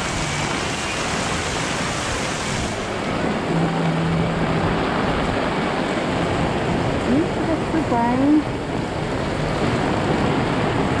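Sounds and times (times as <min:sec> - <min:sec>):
heavy rain on pavement: 0:00.0 - 0:11.0.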